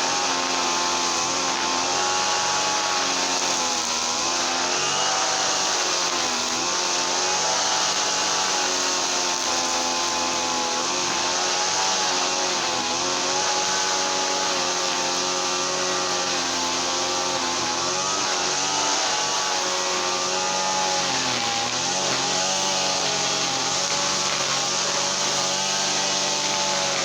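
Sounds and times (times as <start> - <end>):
small gasoline engine running: 0.0 - 27.0.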